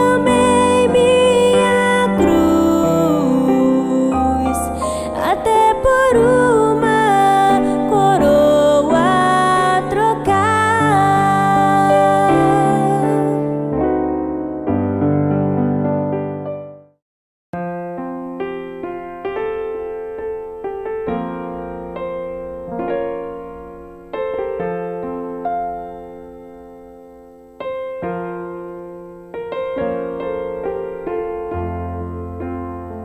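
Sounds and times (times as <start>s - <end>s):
piano chords ringing: 0.0s - 16.8s, 17.6s - 33.0s.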